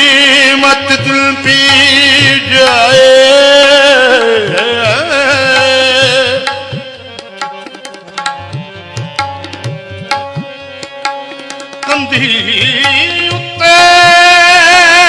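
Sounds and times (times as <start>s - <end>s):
man singing: 0.0s - 15.0s
tabla playing: 0.0s - 15.0s.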